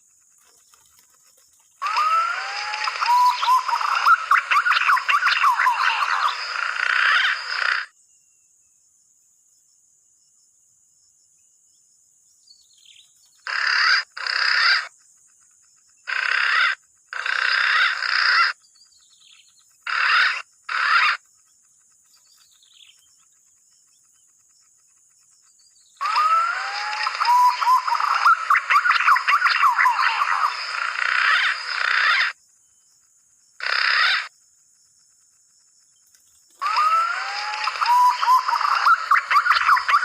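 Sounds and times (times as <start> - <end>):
chorus of whistling bird calls: 0.6 - 8.4, 12.4 - 34.4, 35.6 - 40.0.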